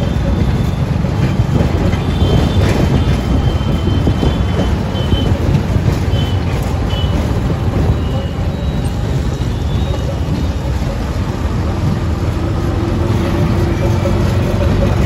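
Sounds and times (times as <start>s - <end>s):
auto-rickshaw engine rumble: 0.0s - 15.0s
road noise: 0.0s - 15.0s.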